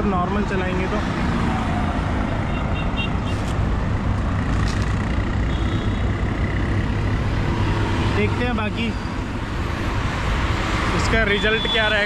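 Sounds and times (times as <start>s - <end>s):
traffic passing: 0.0s - 12.0s.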